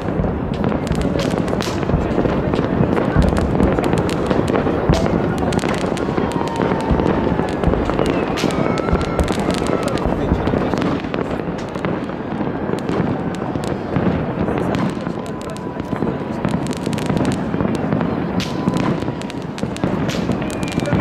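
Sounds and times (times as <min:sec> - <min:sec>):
fireworks bangs and crackling: 0:00.0 - 0:21.0
whistling fireworks: 0:00.0 - 0:21.0.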